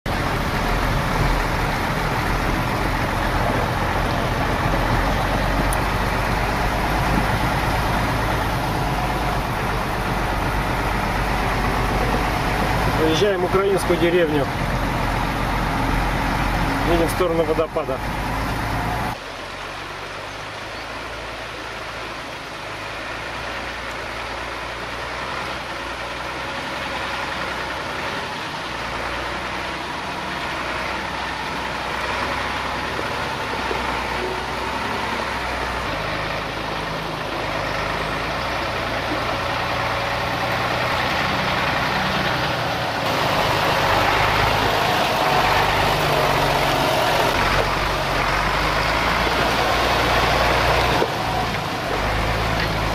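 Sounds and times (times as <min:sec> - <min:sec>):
truck diesel engine: 0:00.0 - 0:52.9.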